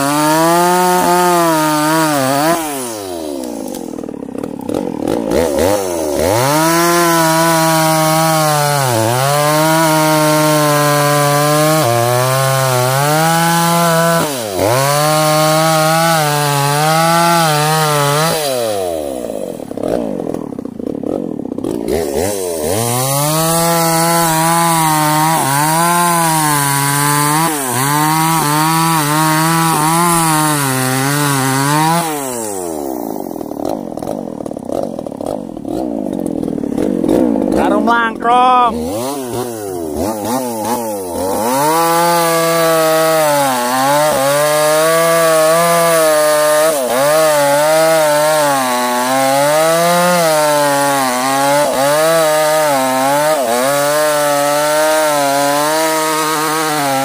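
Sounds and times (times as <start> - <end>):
chainsaw cutting logs: 0.0 - 57.0.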